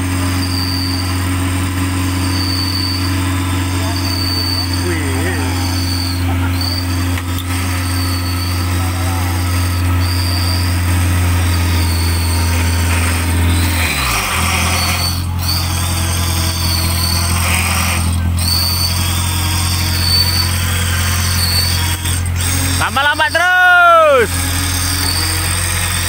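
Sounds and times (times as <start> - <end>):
electric winch whining: 0.0 - 26.0
engine running: 0.0 - 26.0.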